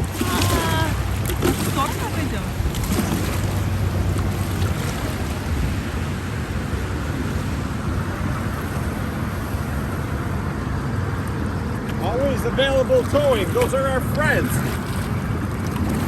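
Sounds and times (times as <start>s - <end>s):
water washing around paddleboard: 0.0s - 16.0s
wind rumbling on microphone: 0.0s - 16.0s.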